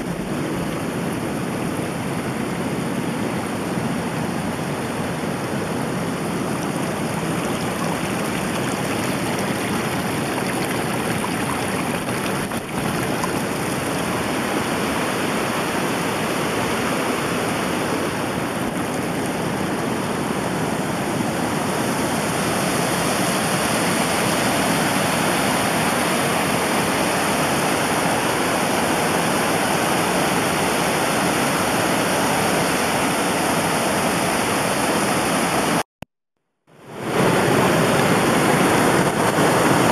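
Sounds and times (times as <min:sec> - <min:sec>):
rushing water: 0:00.0 - 0:35.8, 0:36.8 - 0:39.9.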